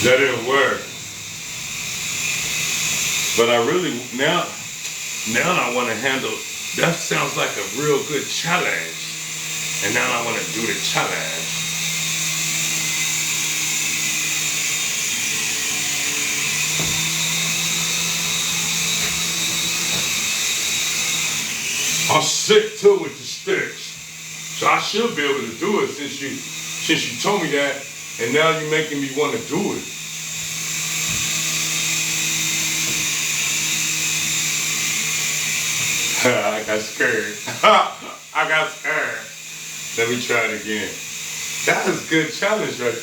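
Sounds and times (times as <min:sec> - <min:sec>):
rc helicopter motor whine: 0:00.0 - 0:43.0
rotors humming: 0:00.0 - 0:43.0.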